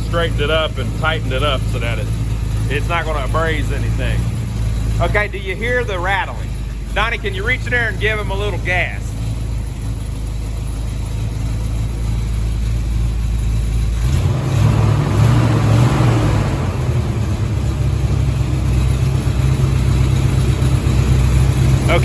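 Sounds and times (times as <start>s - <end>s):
engine idling with rattle: 0.0s - 22.0s
engine revving: 0.0s - 22.0s.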